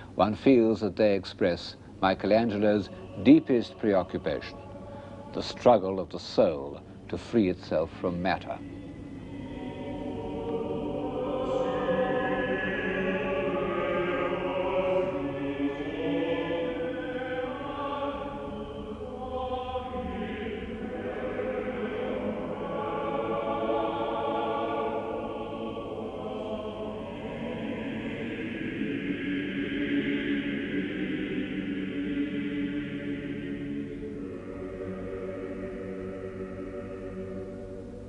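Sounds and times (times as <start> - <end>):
choir singing sustained chords: 0.0 - 38.0.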